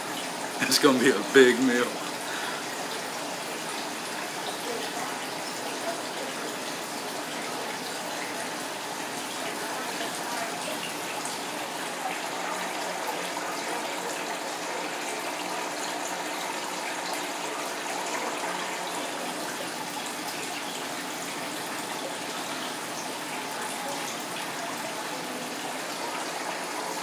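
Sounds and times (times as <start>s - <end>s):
aquarium filter water trickling: 0.0s - 27.0s.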